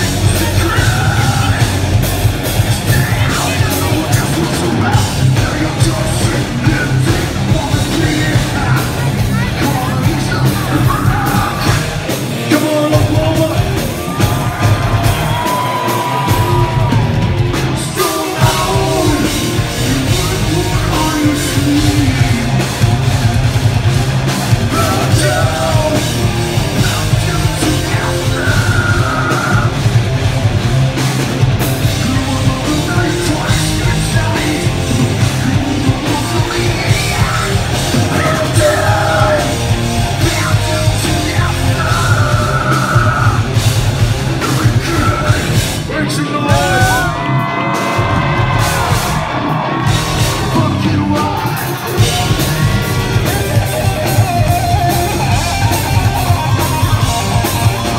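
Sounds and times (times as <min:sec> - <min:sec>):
person singing and yelling: 0:00.0 - 0:23.2, 0:24.4 - 0:30.0, 0:31.7 - 0:43.7, 0:44.3 - 0:57.9
rock band playing: 0:00.0 - 0:57.9.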